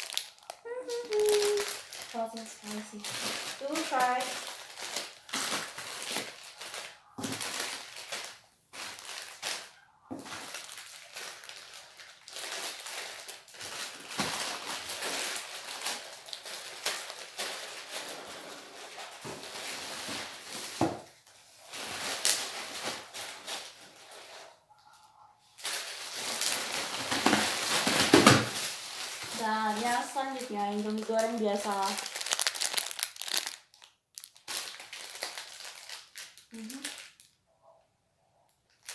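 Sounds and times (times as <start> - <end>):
plastic packets crinkling: 0.0 - 24.7, 25.5 - 37.4, 38.5 - 38.9.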